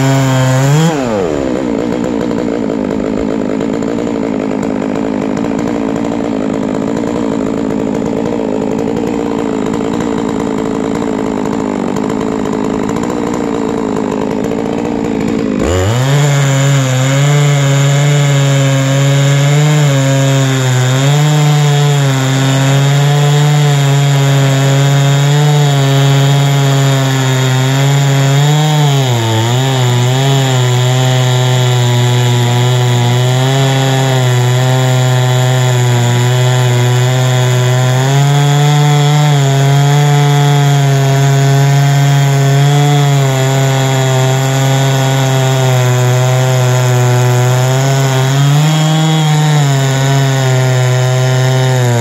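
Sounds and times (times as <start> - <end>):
chainsaw running at full throttle: 0.0 - 52.0.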